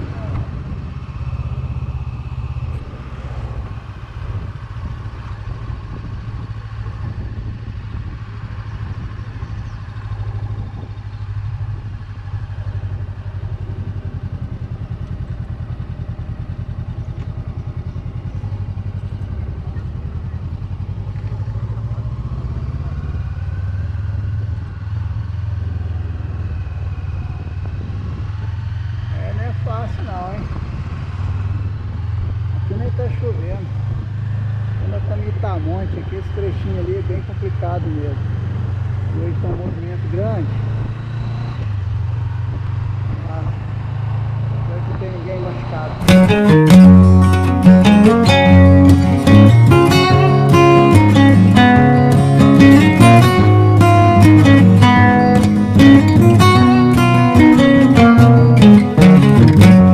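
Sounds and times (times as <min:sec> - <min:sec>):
vehicle engine and tyre drone: 0:00.0 - 0:59.9.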